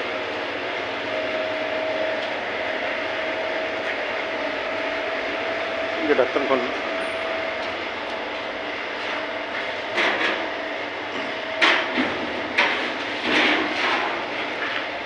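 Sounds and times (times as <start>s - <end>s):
steady mechanical noise: 0.0s - 15.0s.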